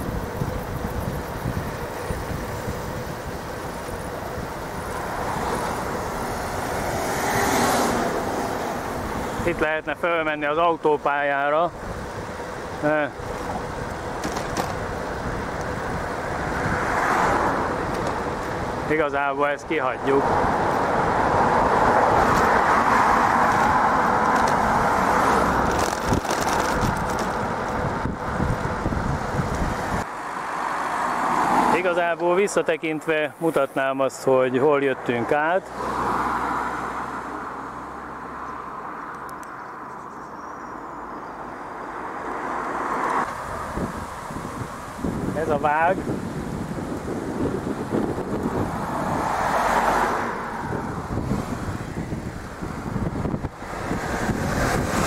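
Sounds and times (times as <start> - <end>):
wind rumbling on microphone: 0.0 - 9.6, 10.6 - 31.8, 41.8 - 55.0
passing vehicle: 0.0 - 55.0
road traffic noise: 0.0 - 55.0.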